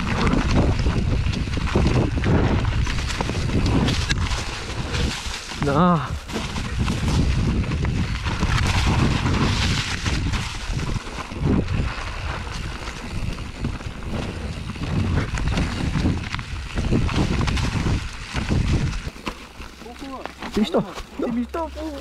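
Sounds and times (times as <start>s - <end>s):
bike knocks and rattles: 0.0s - 21.2s
bike tyre noise: 0.0s - 22.0s
wind rumble on microphone: 0.0s - 22.0s.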